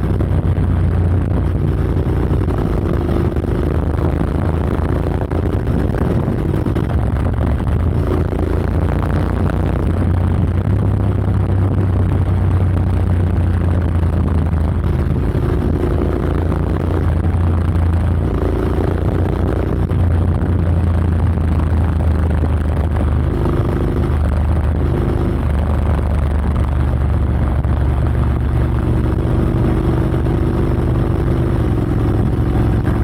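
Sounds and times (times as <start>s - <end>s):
loud low exhaust drone: 0.0s - 33.0s.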